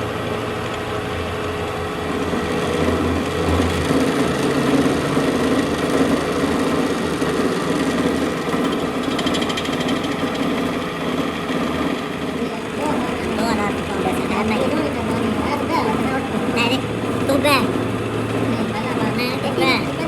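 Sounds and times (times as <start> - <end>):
workshop machine running: 0.0 - 20.0
fast fine rattle: 2.7 - 19.4.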